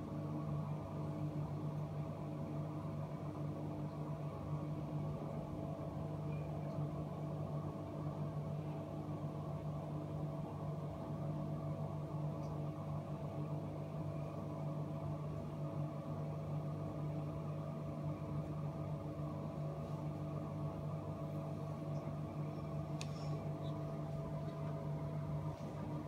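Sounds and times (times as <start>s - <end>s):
machine hum with low tones: 0.0s - 26.0s.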